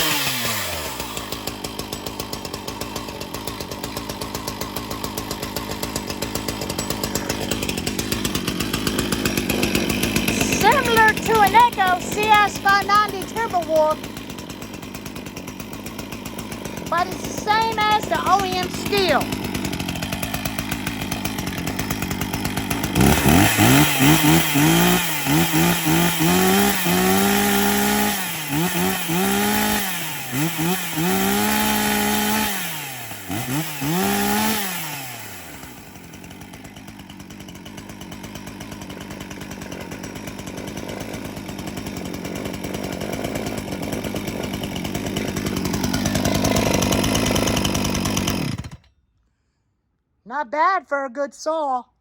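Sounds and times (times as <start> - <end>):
chainsaw revving and idling: 0.0 - 49.0.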